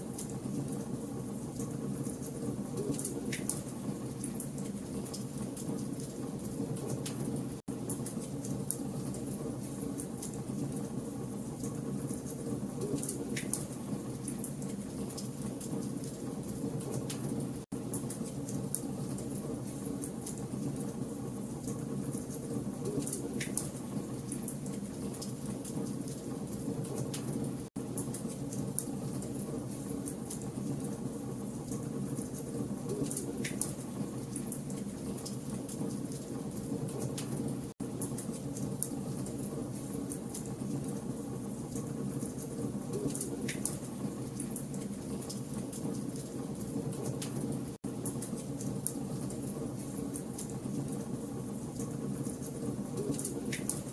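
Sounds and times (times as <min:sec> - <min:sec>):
fire crackles and pops: 0:00.0 - 0:53.9.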